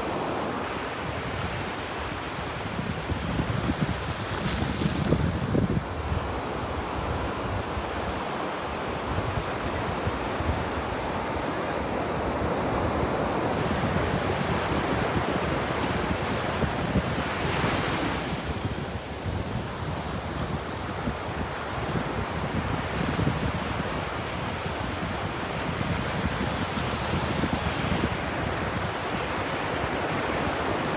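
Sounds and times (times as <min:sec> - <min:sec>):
ocean surf on beach: 0:00.0 - 0:30.9.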